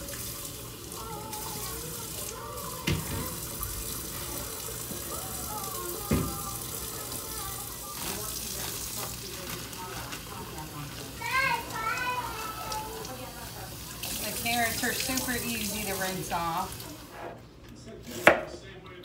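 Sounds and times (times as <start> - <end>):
faucet running water into sink: 0.0 - 17.3
vegetables rinsed in plastic colander: 0.0 - 17.3.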